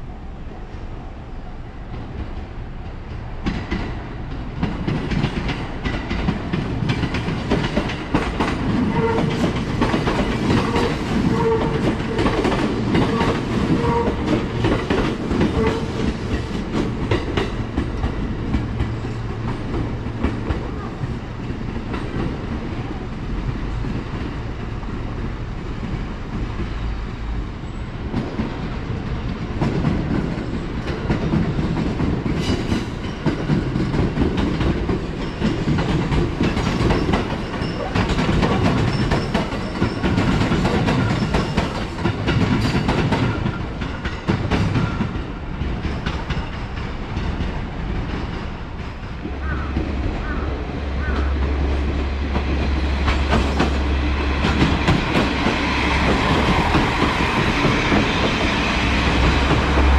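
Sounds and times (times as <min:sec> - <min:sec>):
train rumble: 0:00.0 - 0:59.9
train wheels clacking: 0:01.9 - 0:26.9, 0:27.8 - 0:50.4, 0:51.0 - 0:59.9.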